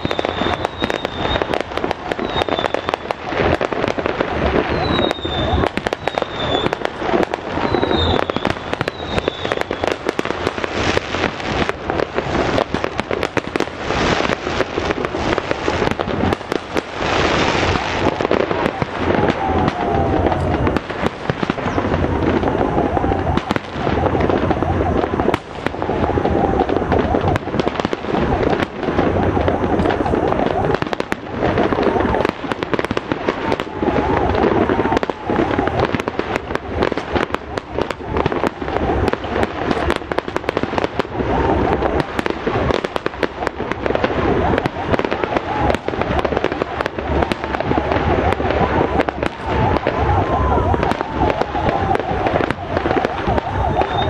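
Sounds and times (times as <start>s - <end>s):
falling firework whistle: 0.0s - 54.0s
fireworks bangs and crackling: 0.0s - 54.0s
hissing firework burst: 0.0s - 54.0s.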